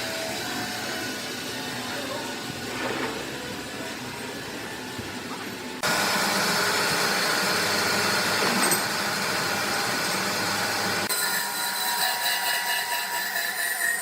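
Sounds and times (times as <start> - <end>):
industrial machinery running: 0.0 - 14.0.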